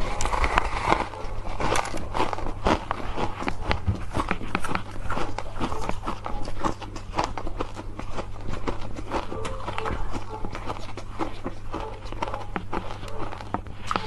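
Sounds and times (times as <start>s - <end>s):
ice crunching being chewed: 0.0s - 14.0s.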